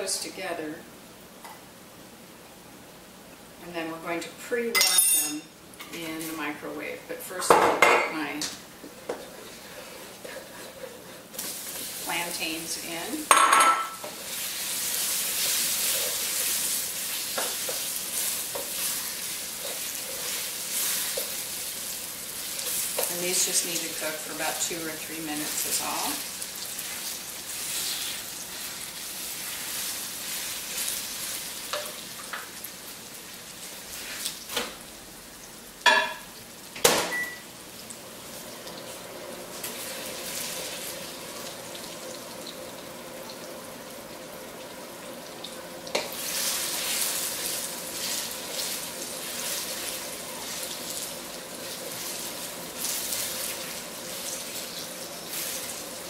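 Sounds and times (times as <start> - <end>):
food sizzling in a wok: 8.2 - 56.0.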